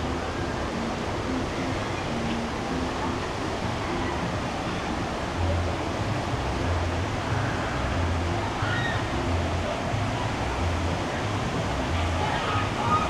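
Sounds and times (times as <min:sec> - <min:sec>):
low pulsing beat: 0:00.0 - 0:13.0
rushing water: 0:00.0 - 0:13.0.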